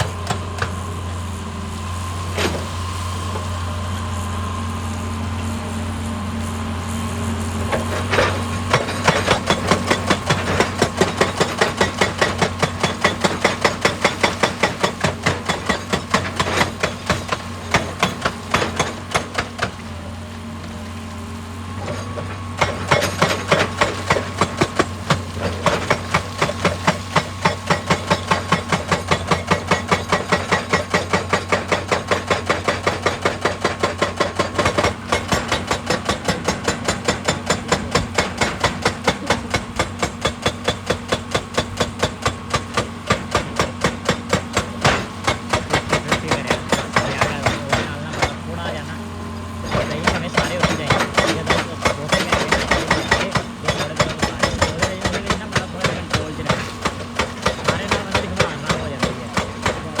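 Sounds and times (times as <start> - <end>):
hydraulic breaker hammering rock: 0.0 - 1.5, 2.2 - 3.6, 7.5 - 60.0
excavator engine humming: 0.0 - 60.0.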